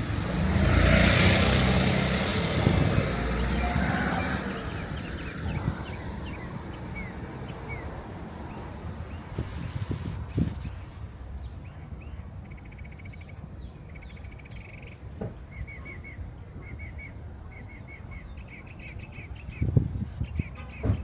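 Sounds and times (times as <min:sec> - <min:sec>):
songbird singing: 0:02.5 - 0:21.0.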